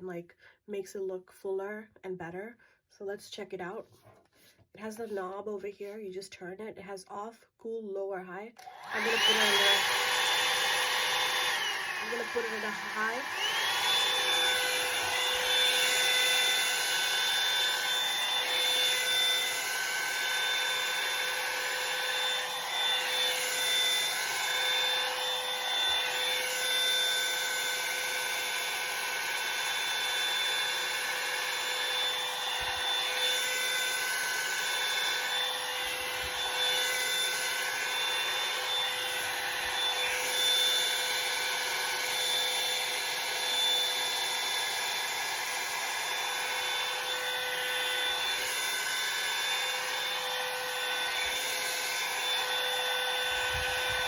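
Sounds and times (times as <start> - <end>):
hair dryer brush running: 8.6 - 54.0.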